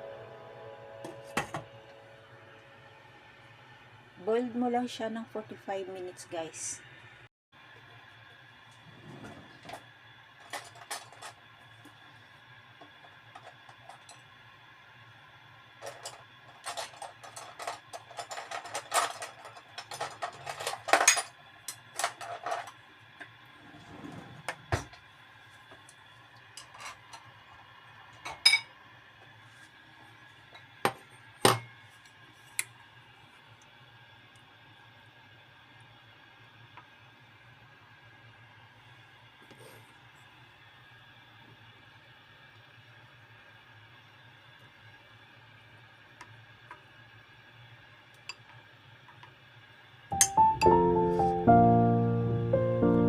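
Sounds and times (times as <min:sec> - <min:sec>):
faint hum: 0:00.0 - 0:46.5.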